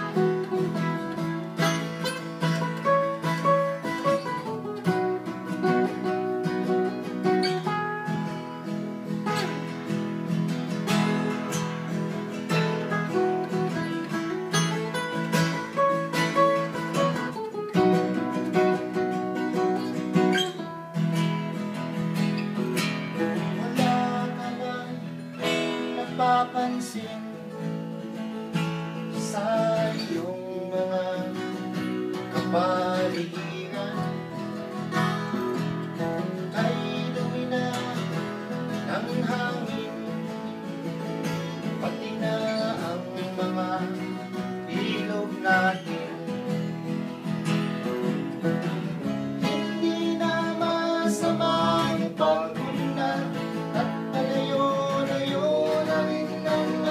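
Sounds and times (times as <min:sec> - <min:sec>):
acoustic guitar folk song: 0:00.0 - 0:56.9.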